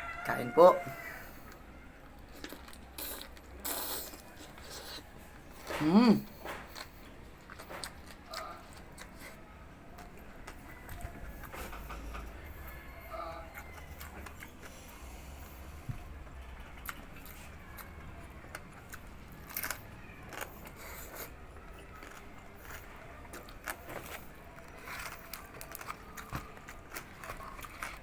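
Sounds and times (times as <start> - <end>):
crunches and crackles of crisp skin: 0.1 - 28.0
person chewing crispy food: 0.1 - 28.0.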